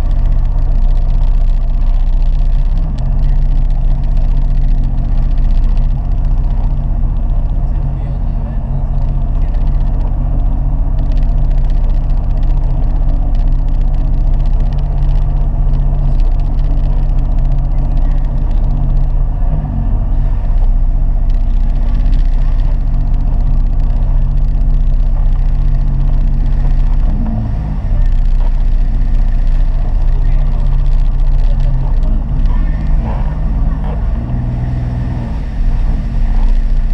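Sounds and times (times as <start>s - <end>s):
personal watercraft engine running: 0.0s - 36.9s.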